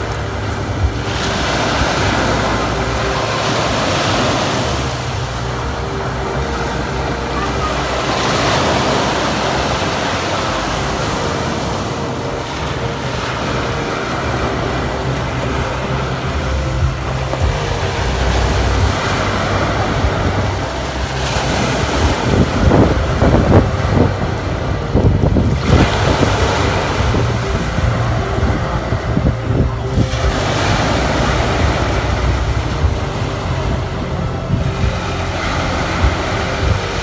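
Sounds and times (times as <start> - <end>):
surf washing on pebble beach: 0.0 - 37.0
wind rumbling on microphone: 0.0 - 37.0.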